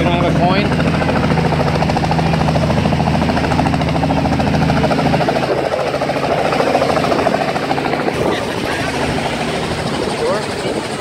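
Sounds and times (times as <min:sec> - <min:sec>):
helicopter engine drone: 0:00.0 - 0:11.0
helicopter rotor blades beating: 0:00.0 - 0:11.0.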